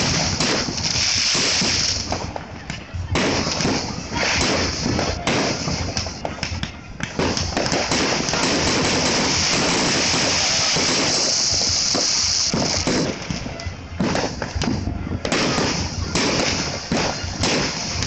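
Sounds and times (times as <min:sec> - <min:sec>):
fireworks bangs: 0:00.0 - 0:18.0
fireworks crackling hiss: 0:00.0 - 0:18.0.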